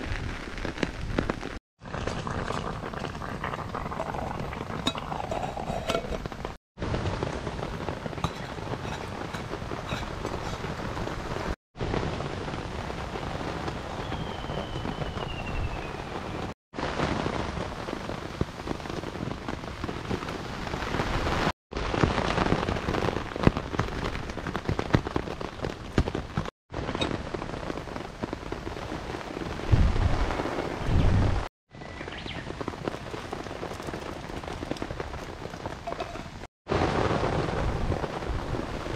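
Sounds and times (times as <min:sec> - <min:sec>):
rain pattering: 0:00.0 - 0:15.2, 0:15.8 - 0:38.9.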